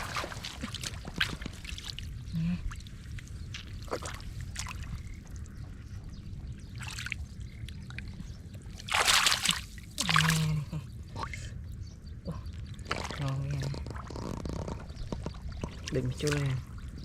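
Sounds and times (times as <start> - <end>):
muddy water splashing: 0.0 - 11.6, 12.3 - 17.0.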